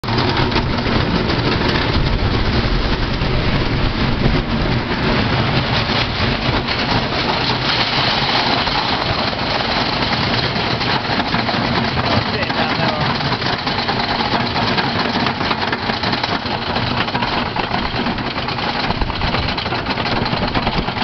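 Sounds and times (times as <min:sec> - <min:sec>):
roller coaster rumble and clatter: 0:00.0 - 0:21.0.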